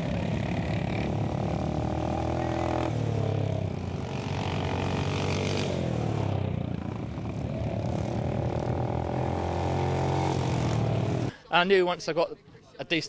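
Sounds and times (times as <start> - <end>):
lawn mower engines buzzing: 0.0 - 11.4.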